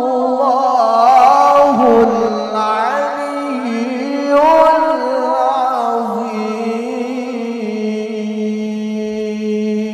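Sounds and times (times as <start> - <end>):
man reciting melodically: 0.0 - 9.9.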